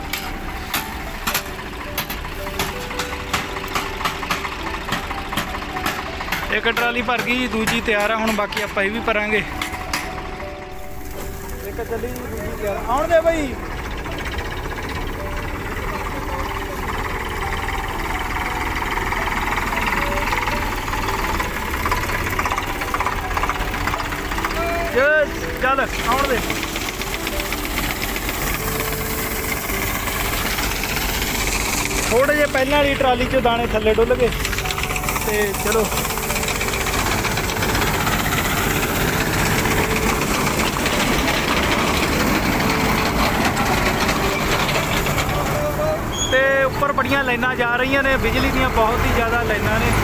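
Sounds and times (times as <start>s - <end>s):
combine harvester running: 0.0s - 50.0s
tractor engine running: 0.0s - 50.0s.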